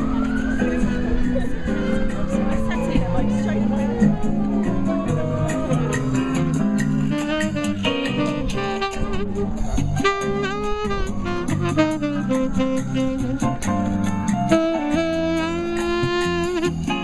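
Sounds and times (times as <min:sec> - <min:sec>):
accompaniment with steady beat: 0:00.0 - 0:17.0
saxophone jazz melody: 0:00.0 - 0:17.0.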